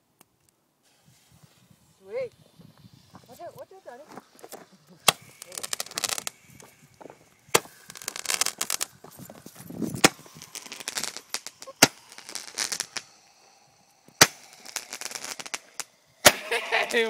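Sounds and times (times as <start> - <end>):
crackling hiss of fireworks: 0.0 - 17.0
fireworks bangs: 0.9 - 17.0.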